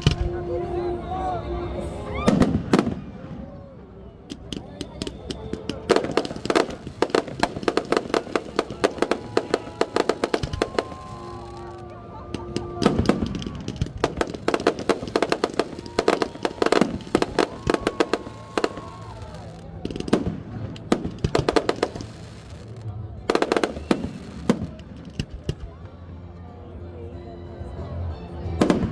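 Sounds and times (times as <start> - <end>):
fireworks bangs and crackles: 0.0 - 0.4, 2.2 - 26.0, 28.6 - 28.9.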